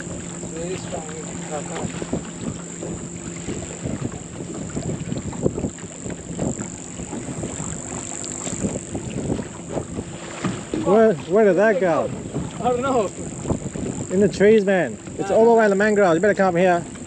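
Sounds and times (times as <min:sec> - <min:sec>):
waves slapping against hull: 0:00.0 - 0:17.0
wind on microphone: 0:00.0 - 0:17.0.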